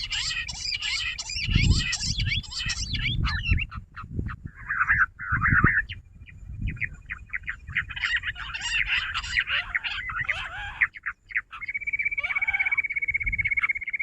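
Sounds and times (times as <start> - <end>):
quails chirping rapidly: 0.0 - 14.0.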